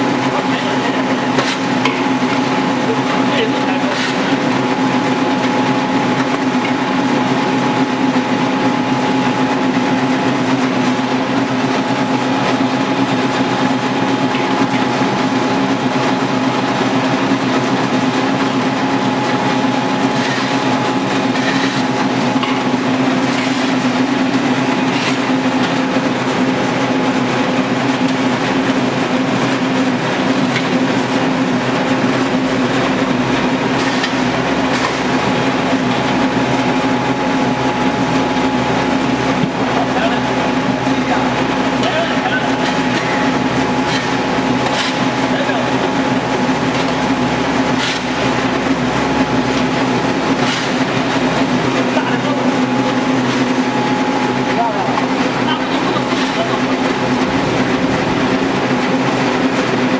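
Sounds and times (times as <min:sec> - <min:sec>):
oil press droning: 0:00.0 - 0:59.9.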